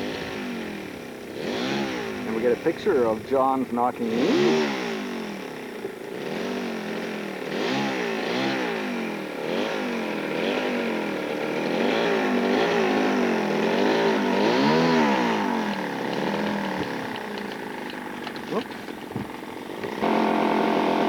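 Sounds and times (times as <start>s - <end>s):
model plane engine revving: 0.0s - 21.0s.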